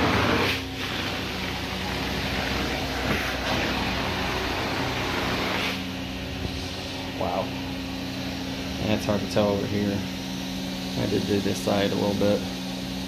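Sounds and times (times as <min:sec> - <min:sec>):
vacuum suction hissing: 0:00.0 - 0:12.0
carpet extraction machine humming: 0:00.0 - 0:13.0.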